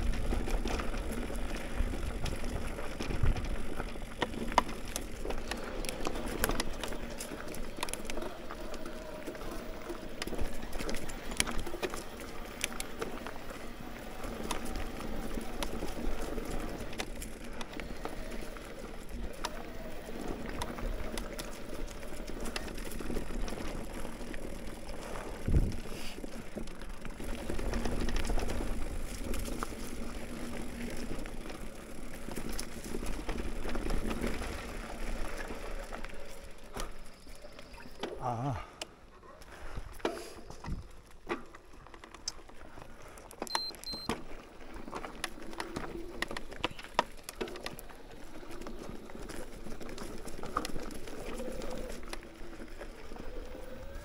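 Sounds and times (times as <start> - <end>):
bike clicks and rattles: 0.0 - 54.0
bike tyres on dirt and rocks: 0.0 - 54.0.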